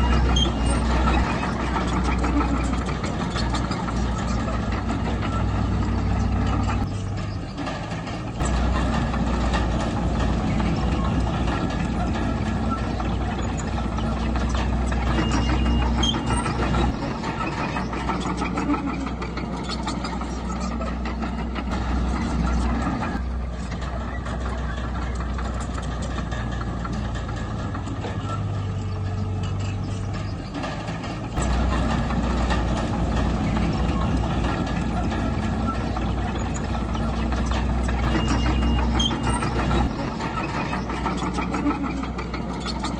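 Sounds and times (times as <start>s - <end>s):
heavy diesel engine droning: 0.0s - 42.9s.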